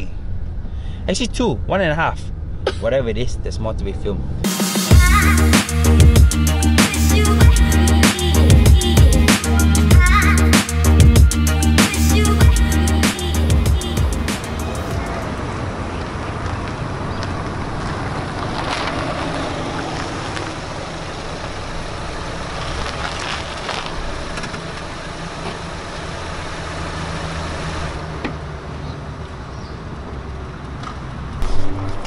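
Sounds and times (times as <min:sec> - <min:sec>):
car engine humming: 0:01.7 - 0:32.0.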